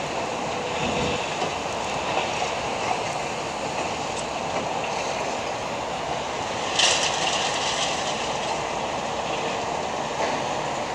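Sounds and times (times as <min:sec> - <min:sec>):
excavator demolition hiss and rumble: 0:00.0 - 0:10.9.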